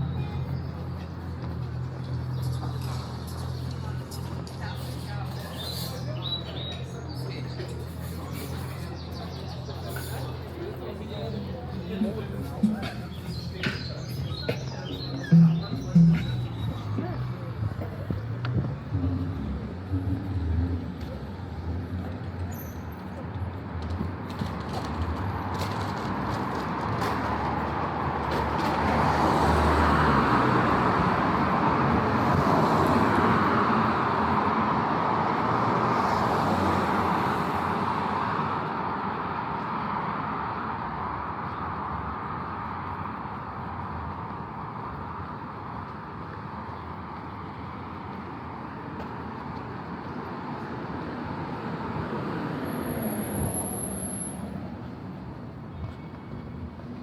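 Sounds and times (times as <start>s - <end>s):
cars passing close by: 0.0s - 57.0s.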